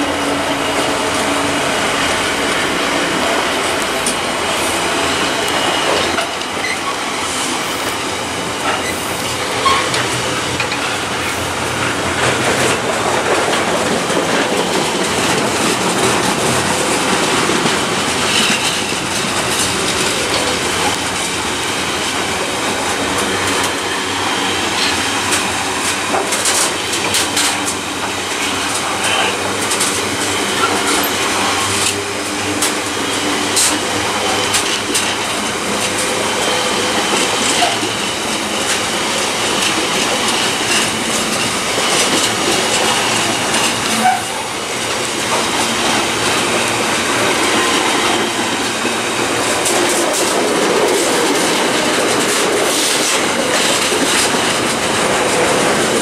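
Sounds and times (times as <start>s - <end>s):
train wheels rumbling on rails: 0.0s - 56.0s
wheels clicking over rail joints: 8.5s - 56.0s.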